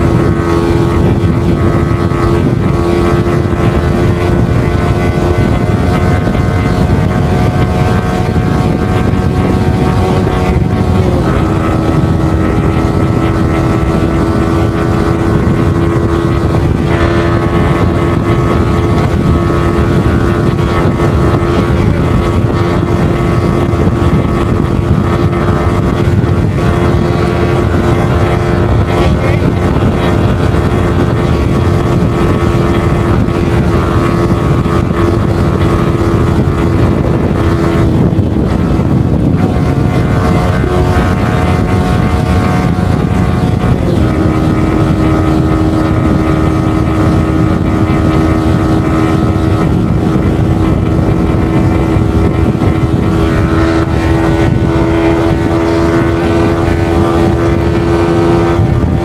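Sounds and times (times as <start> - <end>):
motorcycle engine running hard: 0.0 - 59.0
wind rush on microphone: 0.0 - 59.0.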